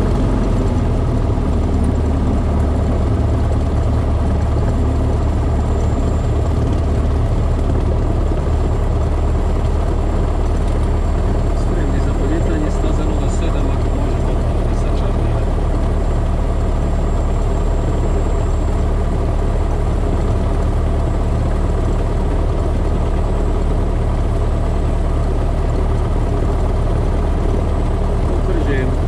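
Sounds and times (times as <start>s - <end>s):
aircraft piston engine idling: 0.0s - 29.0s.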